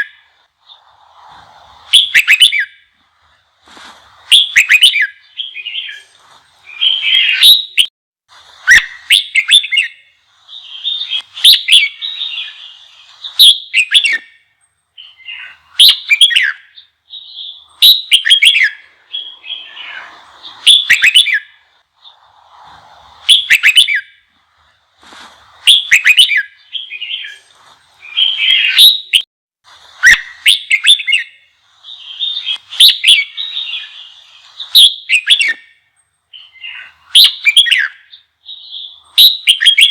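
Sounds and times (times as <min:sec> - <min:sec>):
bird chattering song: 0:01.9 - 0:03.4, 0:04.2 - 0:07.9, 0:08.7 - 0:22.3, 0:25.5 - 0:29.2, 0:30.0 - 0:39.9.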